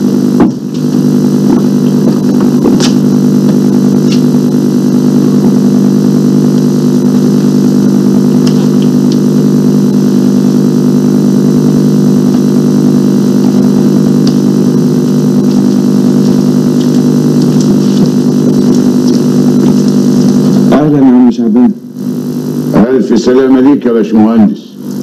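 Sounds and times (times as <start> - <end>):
loud low hum: 0.0 - 25.0.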